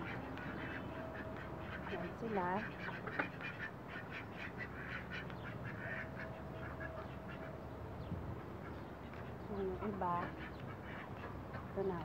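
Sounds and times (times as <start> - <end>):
ducks quacking: 0.0 - 7.6, 8.4 - 12.0.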